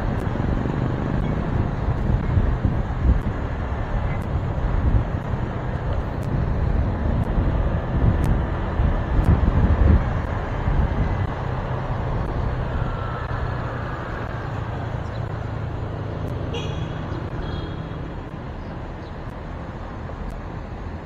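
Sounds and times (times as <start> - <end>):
motorcycle engine: 0.0 - 18.7
wind rumble on microphone: 0.0 - 21.0.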